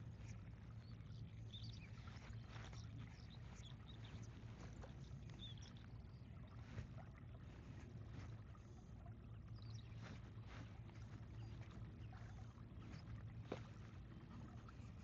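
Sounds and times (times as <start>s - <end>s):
low boat hum: 0.0s - 15.0s
light water wash: 1.5s - 15.0s.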